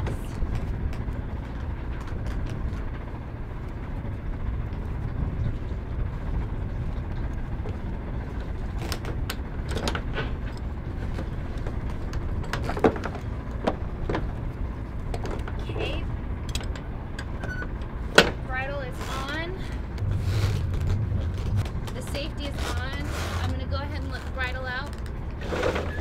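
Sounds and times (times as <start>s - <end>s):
steady low rumble: 0.0s - 25.8s.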